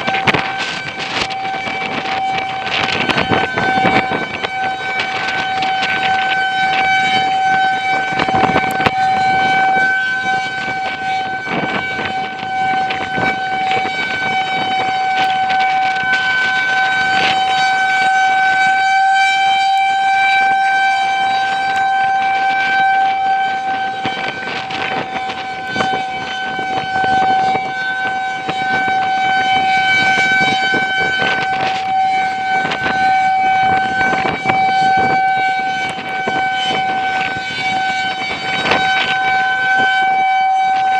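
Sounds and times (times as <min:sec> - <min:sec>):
rotating warning siren: 0:00.0 - 0:40.9
wind buffeting microphone: 0:00.0 - 0:40.9.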